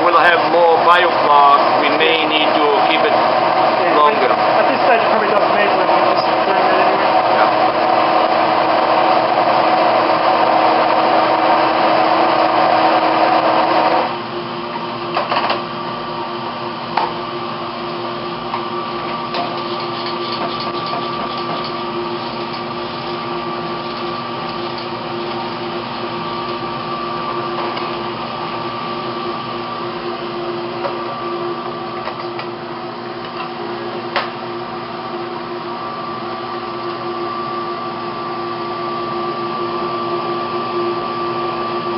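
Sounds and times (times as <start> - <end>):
stick blender running in water: 0.0 - 15.0, 15.7 - 41.9
steady machine hum: 0.0 - 41.9.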